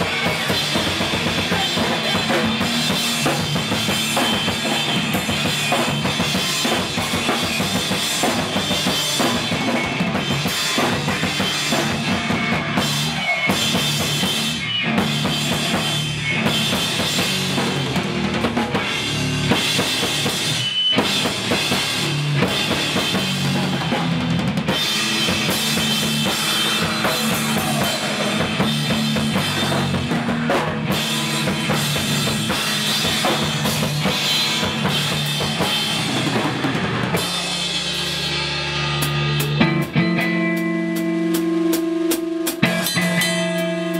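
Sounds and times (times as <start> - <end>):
loud fast band with drums: 0.0 - 43.9.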